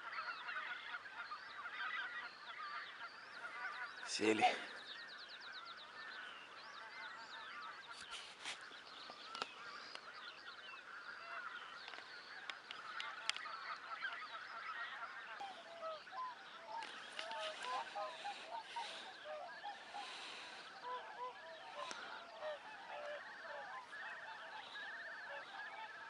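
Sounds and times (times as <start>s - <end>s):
geese and swans honking: 0.0s - 5.0s, 9.3s - 26.0s.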